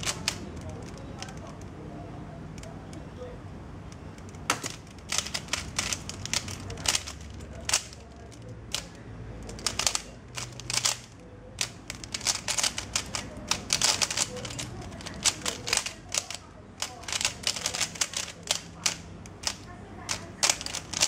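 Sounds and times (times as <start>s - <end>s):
puzzle cube plastic clicks: 0.0s - 1.8s, 3.9s - 21.0s.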